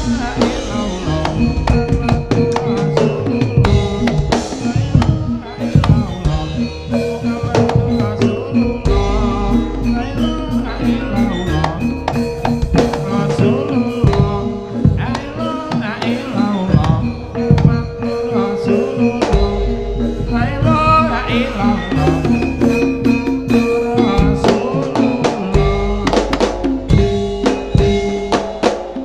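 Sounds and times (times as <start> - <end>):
hand drums beating: 0.0 - 29.0
held pitched tones: 0.0 - 29.0
wavering melody line: 0.0 - 29.0.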